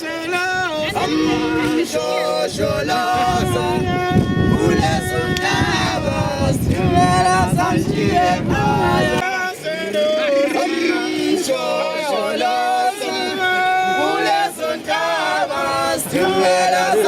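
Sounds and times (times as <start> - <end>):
people singing: 0.0 - 17.0.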